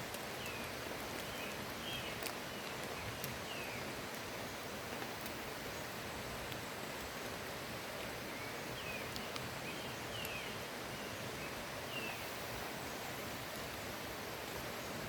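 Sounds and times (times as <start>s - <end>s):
forest river rushing: 0.0s - 15.0s
light drizzle falling: 0.0s - 15.0s.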